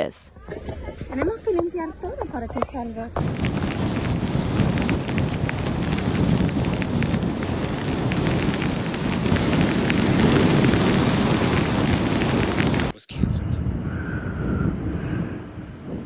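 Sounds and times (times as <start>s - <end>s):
blizzard wind on microphone: 0.5s - 16.0s.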